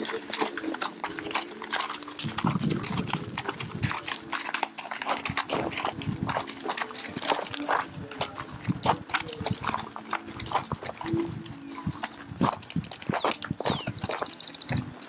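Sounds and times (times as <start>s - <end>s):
hooves clip-clopping on stony trail: 0.0s - 15.0s.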